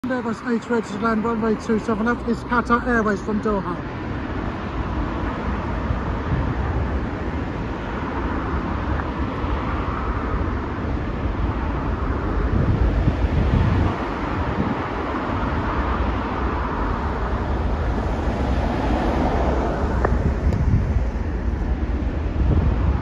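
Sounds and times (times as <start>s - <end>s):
wind buffeting microphone: 0.1s - 23.0s.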